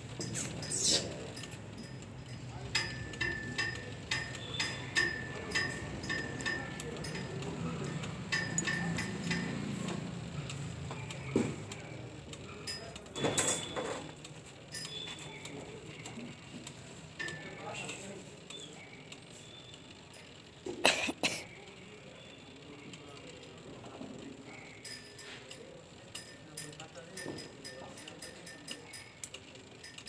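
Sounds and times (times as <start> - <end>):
low background murmur: 0.0 - 30.0.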